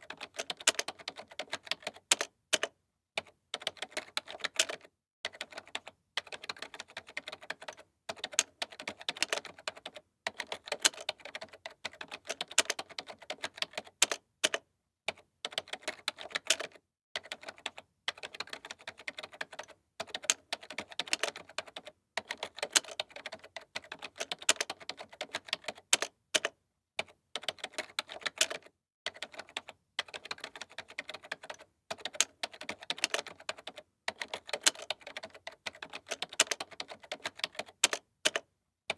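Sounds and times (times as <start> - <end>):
fast typing on computer keyboard: 0.0 - 38.5.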